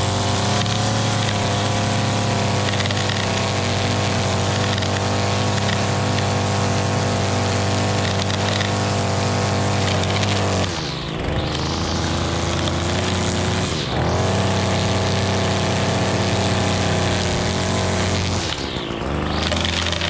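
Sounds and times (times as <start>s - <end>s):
string trimmer engine running: 0.0s - 20.0s.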